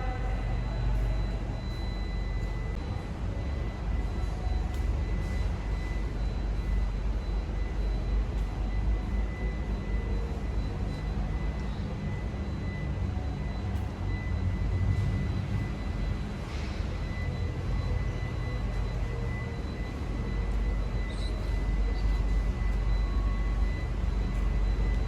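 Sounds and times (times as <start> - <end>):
car engine low rumble: 0.0 - 25.0
faint high whine: 0.0 - 25.0.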